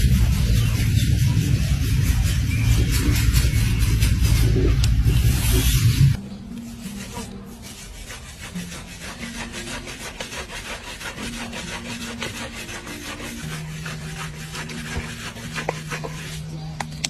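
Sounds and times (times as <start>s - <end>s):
rapid back-and-forth scraping: 0.0s - 17.0s.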